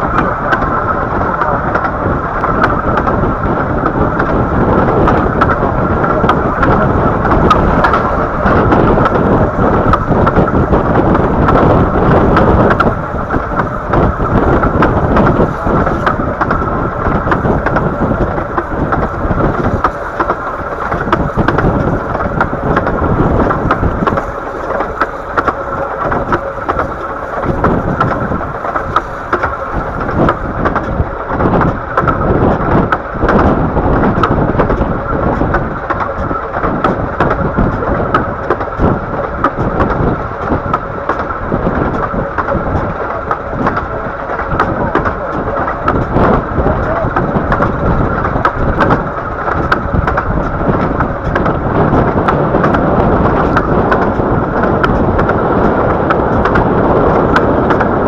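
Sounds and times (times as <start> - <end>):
train carriage rumbling on track: 0.0 - 58.0
wheel clicks on rail joints: 0.0 - 58.0.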